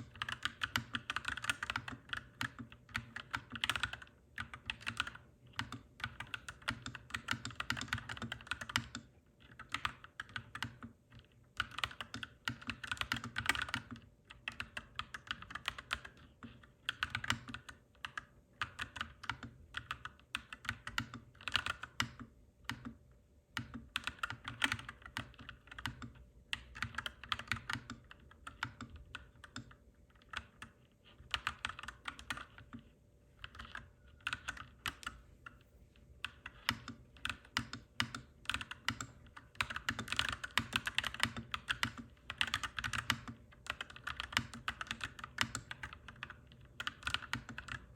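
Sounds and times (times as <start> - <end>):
mechanical keyboard typing: 0.0 - 23.0, 23.6 - 35.6, 36.2 - 47.9.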